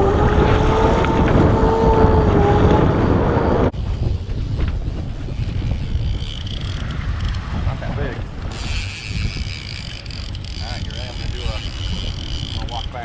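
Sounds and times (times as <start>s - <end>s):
boat engine running: 0.0s - 13.0s
steady whine: 0.0s - 13.0s
wind buffeting microphone: 0.0s - 13.0s.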